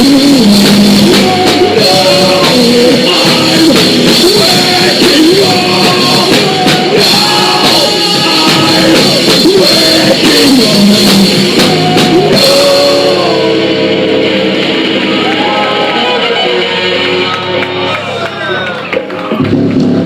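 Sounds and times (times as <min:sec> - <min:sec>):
person singing: 0:00.0 - 0:17.5
cymbals: 0:00.0 - 0:18.2
drums: 0:00.0 - 0:20.0
electric guitar: 0:00.0 - 0:20.0.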